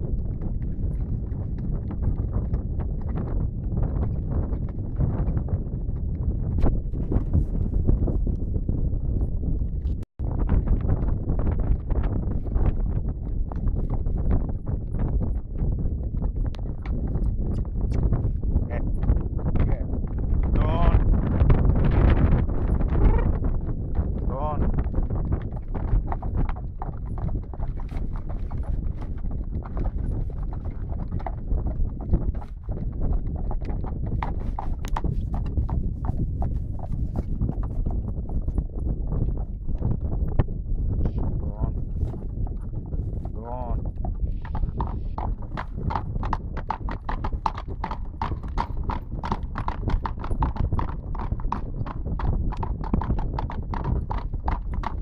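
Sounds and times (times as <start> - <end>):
horse hooves clip-clopping: 0.0 - 55.0
steady low rumble: 5.7 - 55.0.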